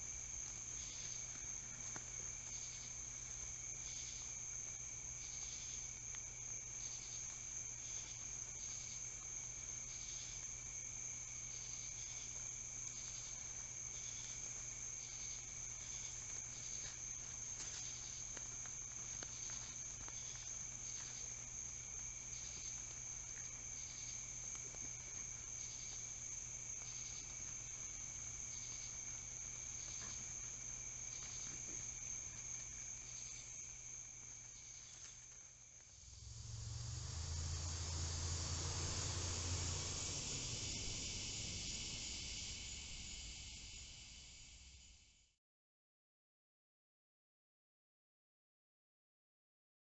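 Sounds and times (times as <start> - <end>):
crickets trilling: 0.0 - 45.3
cricket chirps: 0.0 - 45.4.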